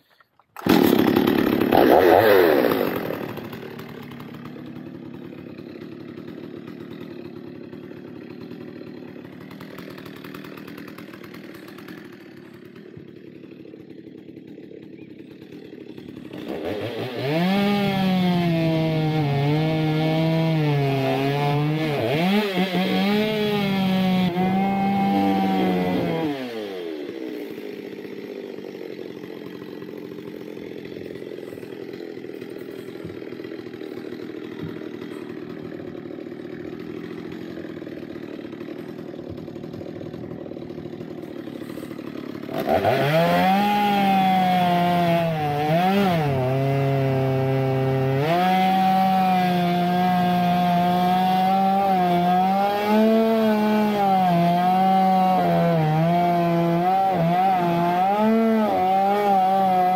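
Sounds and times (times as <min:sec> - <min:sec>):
chainsaw cutting log: 0:00.0 - 0:59.9
chainsaw idling: 0:00.1 - 0:59.9.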